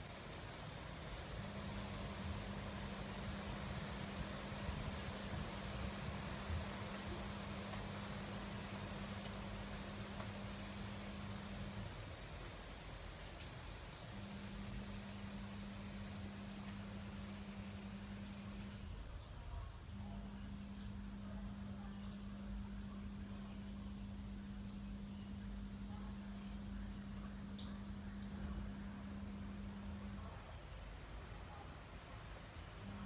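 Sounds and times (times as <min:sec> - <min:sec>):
insects trilling: 0:00.0 - 0:33.0
low steady hum: 0:00.0 - 0:33.0.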